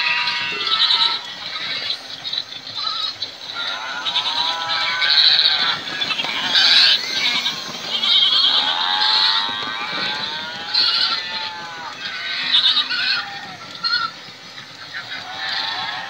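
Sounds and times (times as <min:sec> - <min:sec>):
goat bleating: 0:00.0 - 0:01.6, 0:02.8 - 0:14.2
sheep bleating: 0:00.0 - 0:01.7, 0:02.8 - 0:14.2.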